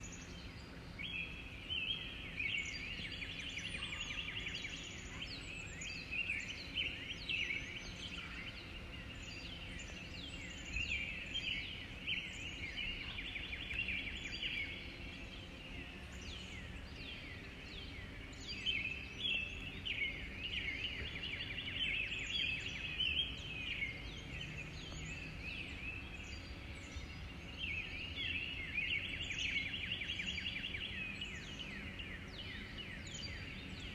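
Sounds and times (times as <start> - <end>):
low background hiss: 0.0 - 33.9
songbirds trilling: 0.0 - 33.9.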